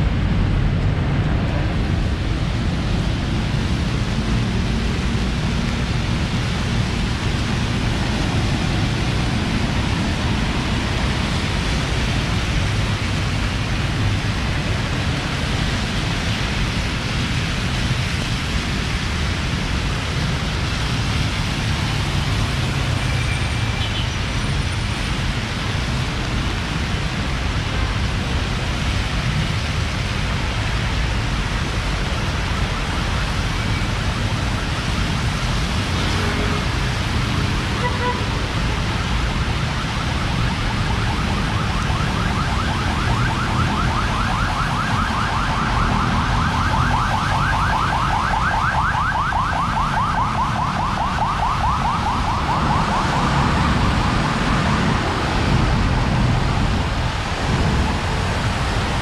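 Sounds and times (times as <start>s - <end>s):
rain: 0.0s - 59.0s
traffic on a wet street: 0.0s - 59.0s.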